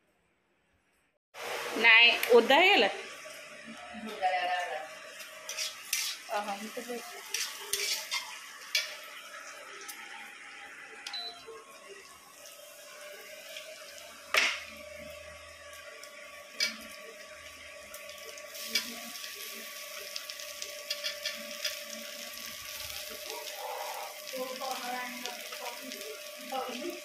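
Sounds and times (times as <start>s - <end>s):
hot oil sizzling and crackling: 1.4s - 27.0s.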